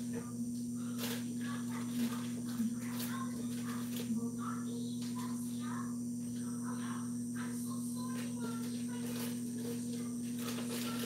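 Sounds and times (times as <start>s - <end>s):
faint indistinct sounds: 0.0s - 11.0s
steady low hum: 0.0s - 11.0s.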